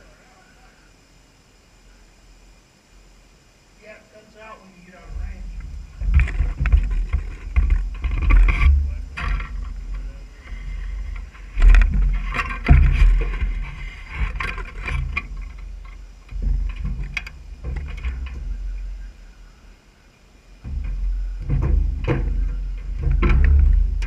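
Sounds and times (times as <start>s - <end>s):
low microphone rumble: 4.2s - 24.0s.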